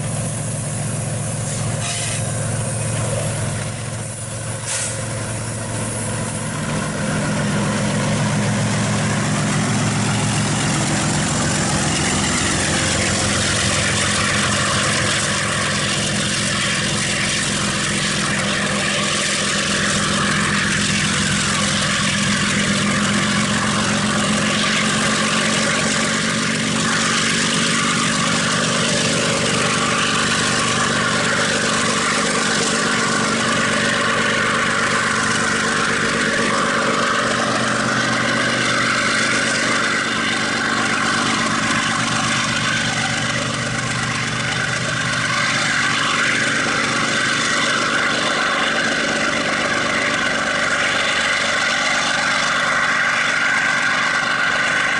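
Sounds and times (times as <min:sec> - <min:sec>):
locomotive engine running: 0:00.0 - 0:54.9
train wheels rumbling and squealing: 0:00.0 - 0:54.9.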